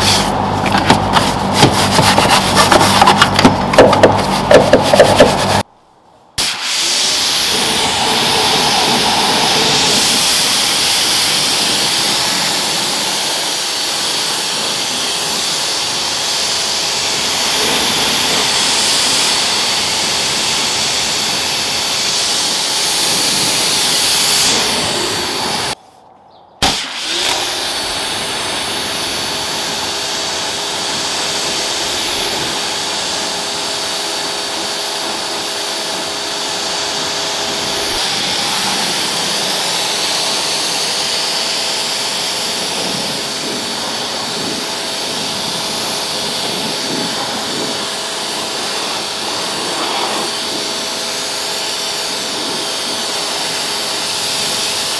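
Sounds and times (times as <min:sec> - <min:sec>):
pressure washer spraying water: 0:00.0 - 0:05.6, 0:06.4 - 0:25.8, 0:26.6 - 0:54.9.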